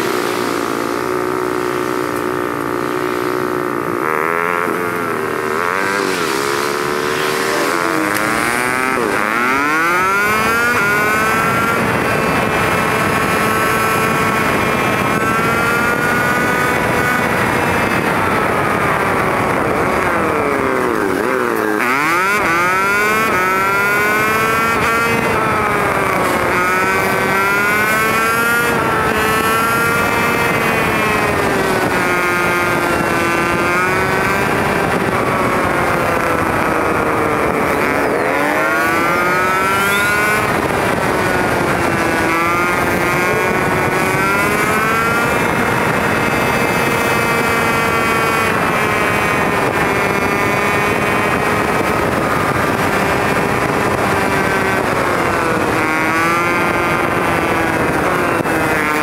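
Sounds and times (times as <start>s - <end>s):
small motorbike engine accelerating: 0.0s - 59.0s
wind and road noise: 0.0s - 59.0s.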